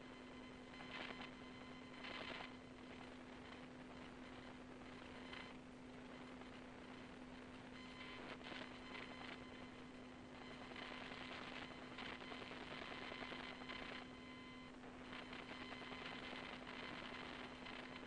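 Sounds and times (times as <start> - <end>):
crackly static: 0.0 - 18.0
faint steady hum: 0.0 - 18.0.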